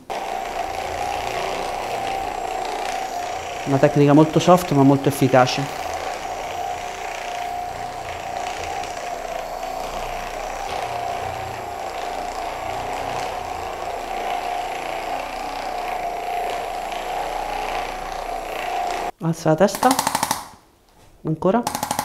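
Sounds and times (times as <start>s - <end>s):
massage gun motor whine: 0.0s - 19.1s.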